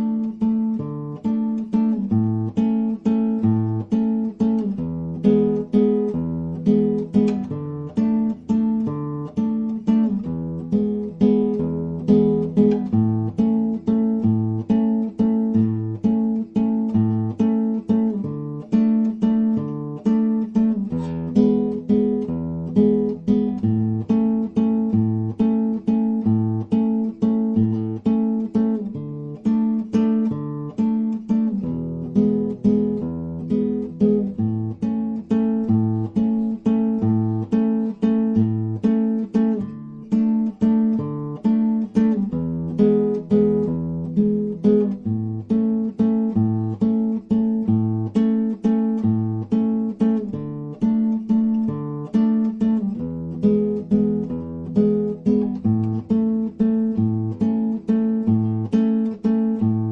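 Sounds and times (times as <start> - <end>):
acoustic guitar picking: 0.0 - 59.9.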